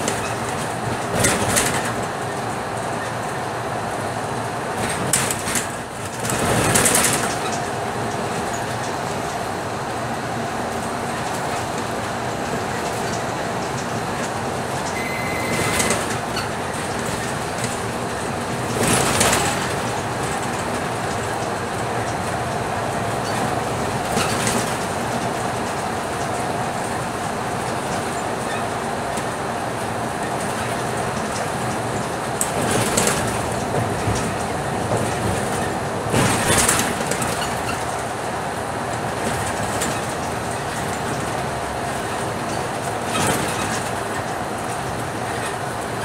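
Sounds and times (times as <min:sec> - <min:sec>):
bus engine: 0:00.0 - 0:46.0
road noise: 0:00.0 - 0:46.0.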